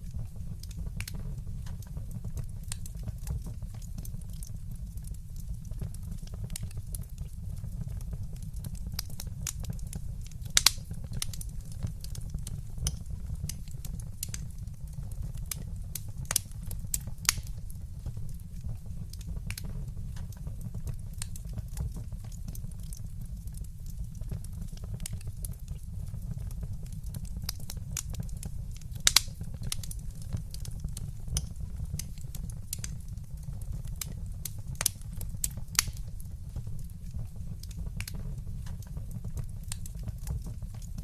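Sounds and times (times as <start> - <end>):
wood fire crackling: 0.0 - 41.0
sharp pops and snaps: 0.6 - 4.6, 5.3 - 41.0.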